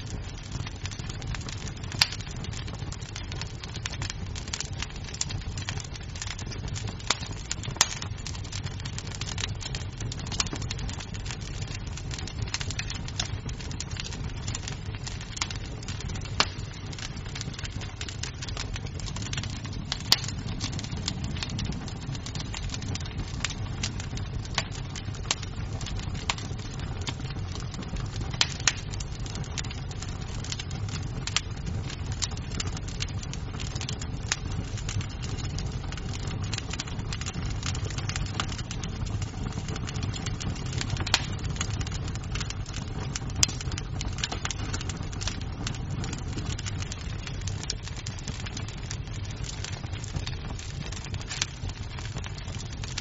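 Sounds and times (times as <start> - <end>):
burning wood popping and snapping: 0.0 - 53.0
low rumble of flames: 0.0 - 53.0.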